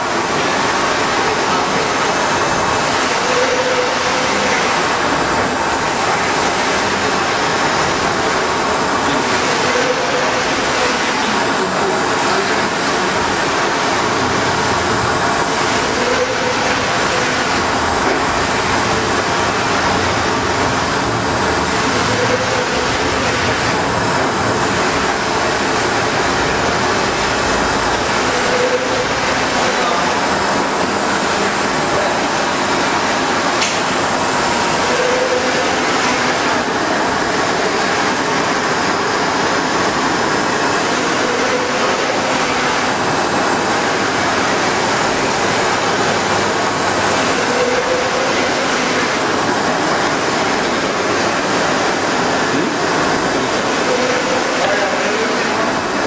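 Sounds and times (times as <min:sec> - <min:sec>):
printer carriage mechanical noise: 0:00.0 - 0:56.0.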